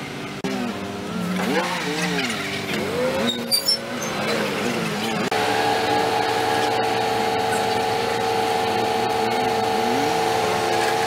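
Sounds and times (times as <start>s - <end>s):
engine whining steadily: 0.0s - 11.0s.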